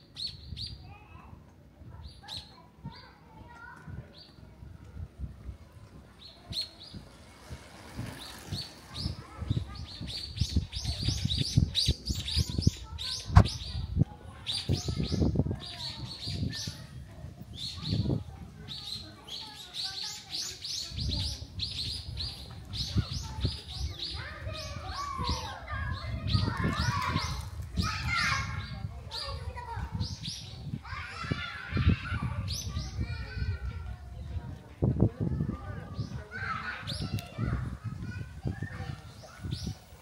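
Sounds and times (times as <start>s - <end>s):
people's voices: 0.6s - 40.0s
flock of small birds chirping: 6.2s - 34.5s, 35.7s - 37.8s, 38.4s - 40.0s.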